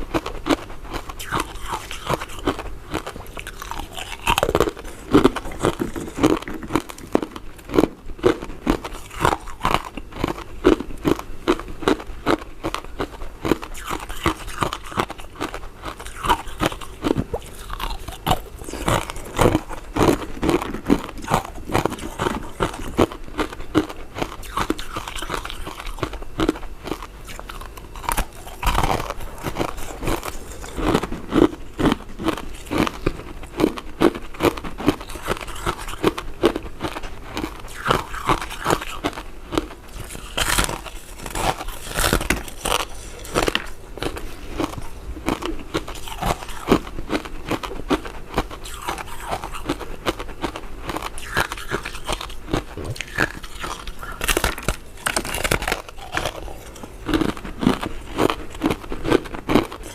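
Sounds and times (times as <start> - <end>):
chewing chewy sweets: 0.0 - 59.9.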